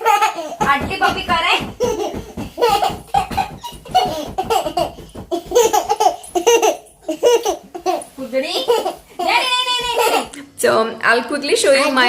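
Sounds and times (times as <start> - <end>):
toddlers laughing: 0.0 - 10.4.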